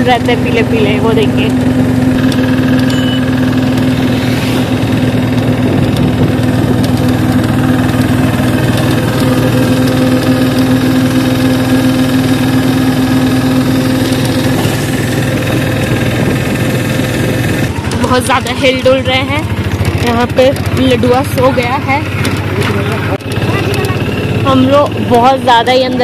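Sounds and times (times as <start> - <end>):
auto-rickshaw engine humming: 0.0 - 26.0.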